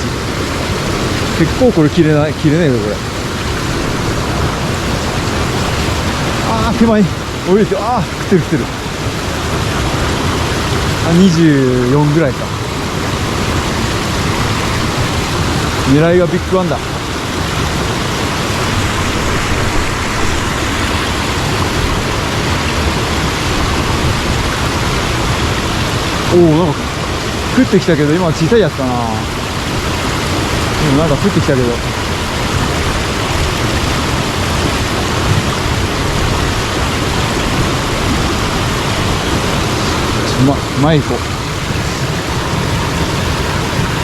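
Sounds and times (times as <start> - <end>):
mountain stream water rushing: 0.0 - 44.0.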